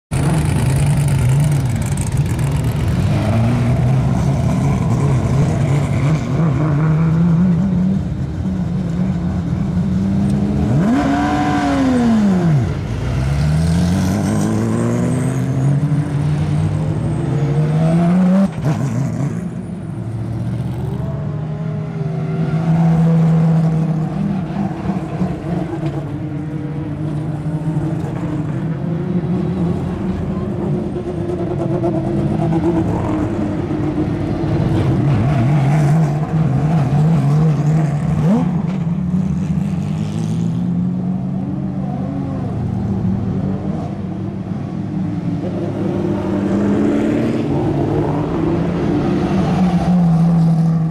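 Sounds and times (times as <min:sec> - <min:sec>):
race car engines idling and revving: 0:00.1 - 0:50.9.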